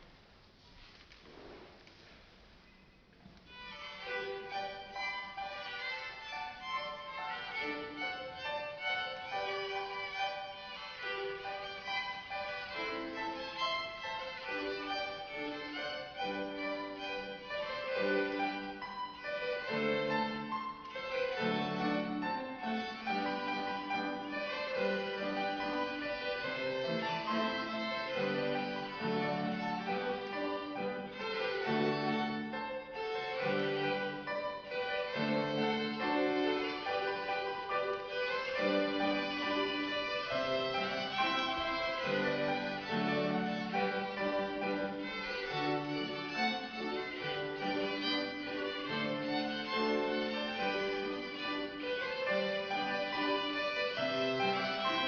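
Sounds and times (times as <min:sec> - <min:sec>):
violin playing classical piece: 0:03.3 - 0:55.0.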